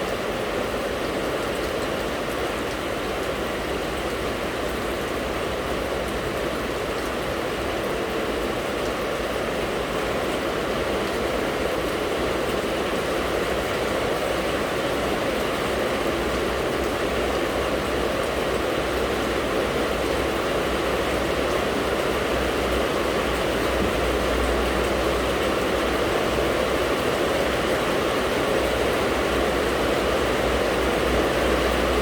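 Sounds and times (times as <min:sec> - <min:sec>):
heavy rain: 0:00.0 - 0:32.0.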